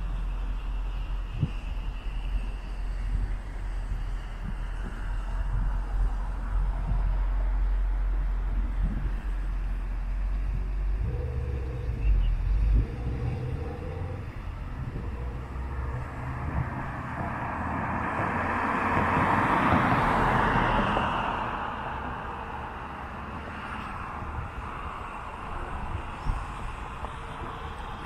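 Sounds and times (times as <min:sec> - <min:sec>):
motor vehicle passing: 0:00.0 - 0:28.0
traffic rumble: 0:00.0 - 0:28.0.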